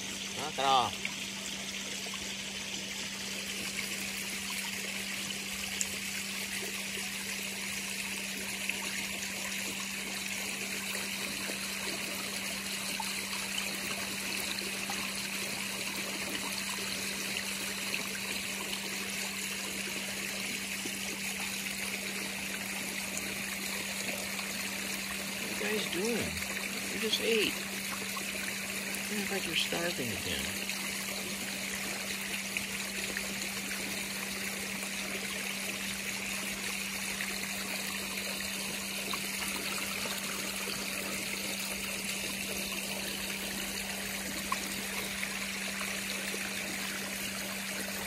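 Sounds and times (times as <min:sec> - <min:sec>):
waterfall trickling and splashing: 0:00.0 - 0:48.0.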